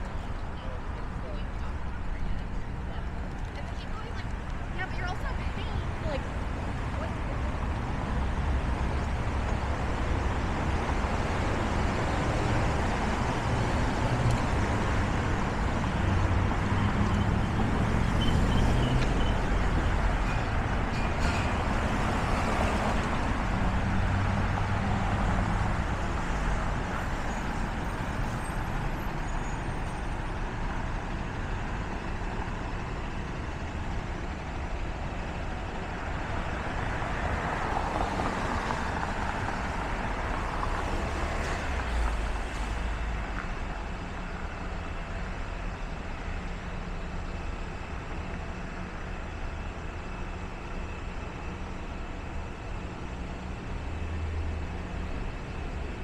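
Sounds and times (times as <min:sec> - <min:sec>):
traffic passing: 0:00.0 - 0:56.0.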